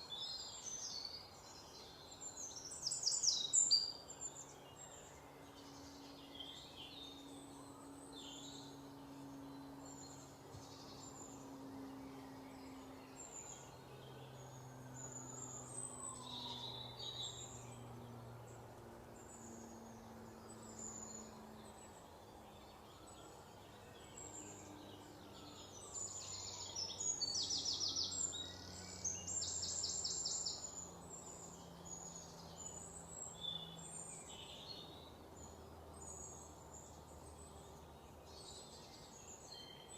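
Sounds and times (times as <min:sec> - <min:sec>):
faint low hum: 0:00.0 - 0:39.9
small birds chirping: 0:00.0 - 0:39.9.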